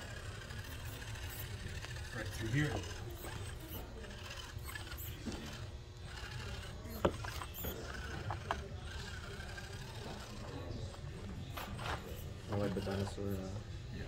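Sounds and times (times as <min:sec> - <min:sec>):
small electric motor whine: 0:00.0 - 0:14.0.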